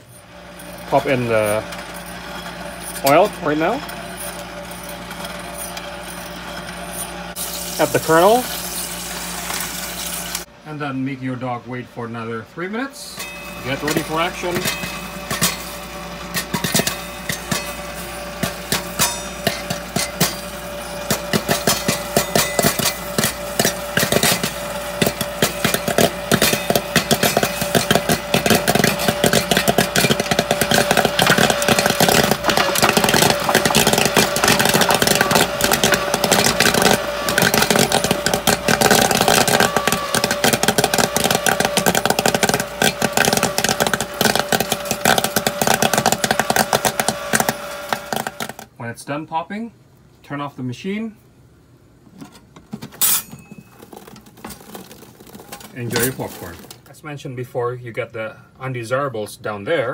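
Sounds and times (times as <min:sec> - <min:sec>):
popcorn machine hum: 0:00.0 - 0:48.9, 0:51.4 - 0:56.9
popcorn popping: 0:00.3 - 0:10.5, 0:13.2 - 0:48.8, 0:52.5 - 0:56.9.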